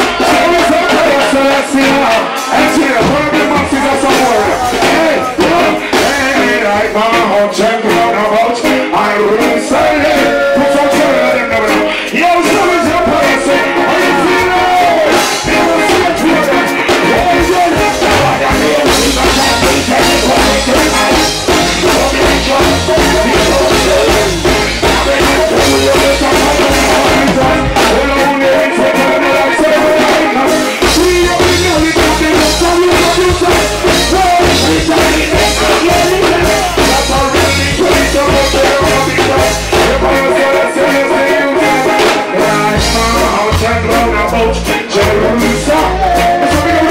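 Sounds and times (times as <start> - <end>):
heavy bass line: 0.0 - 46.9
man singing: 0.0 - 46.9
reggae music: 0.0 - 46.9.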